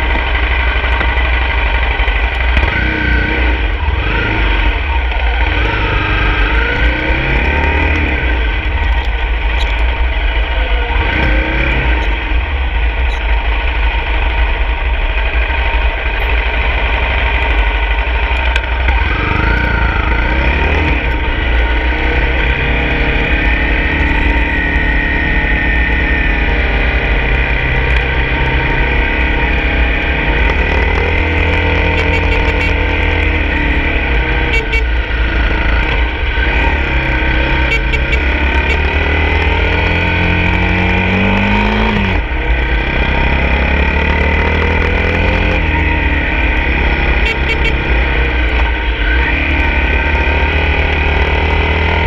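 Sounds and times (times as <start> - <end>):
dirt bike engine revving: 0.0 - 8.9, 10.6 - 12.8, 16.3 - 52.0.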